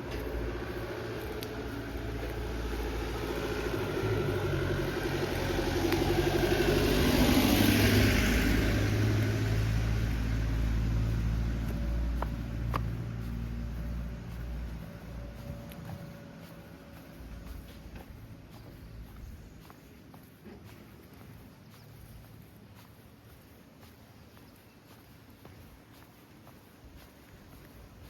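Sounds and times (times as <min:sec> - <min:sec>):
motor vehicle driving past: 0:00.0 - 0:23.0.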